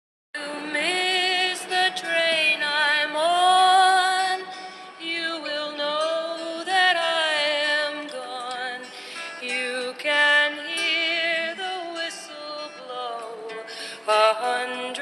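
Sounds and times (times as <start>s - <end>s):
woman singing: 0.4s - 15.0s.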